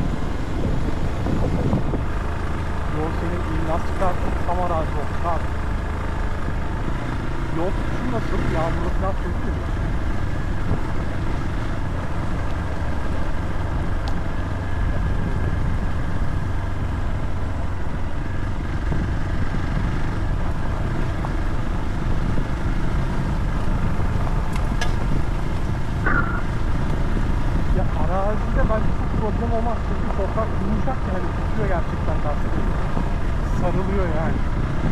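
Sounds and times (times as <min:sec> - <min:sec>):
motorcycle engine rumble: 0:00.0 - 0:34.9.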